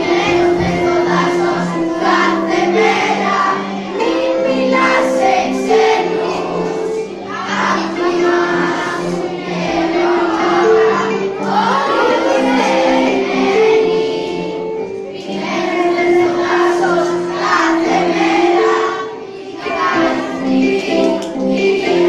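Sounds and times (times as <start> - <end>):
children's choir singing: 0.0 - 22.0
instrumental backing: 0.0 - 22.0.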